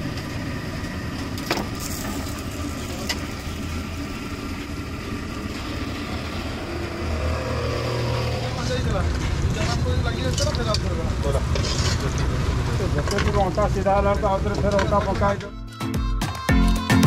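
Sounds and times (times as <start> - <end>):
road traffic rumble: 0.0 - 15.5.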